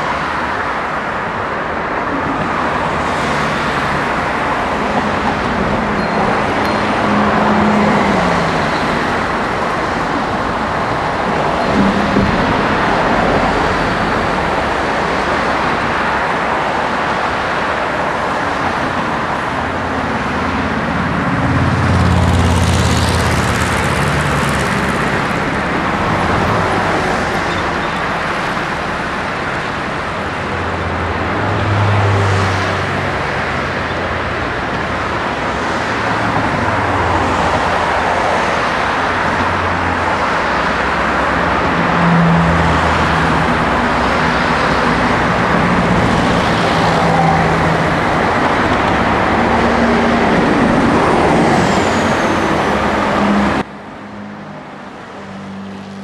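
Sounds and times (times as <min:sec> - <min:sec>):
cars passing on a road: 0:00.0 - 0:56.0.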